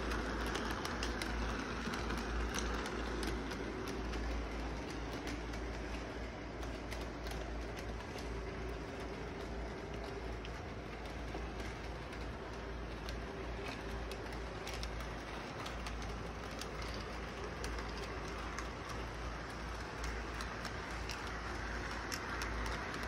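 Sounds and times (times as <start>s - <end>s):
model train rumble and whir: 0.0s - 23.0s
wheels clicking over rail joints: 0.0s - 23.0s.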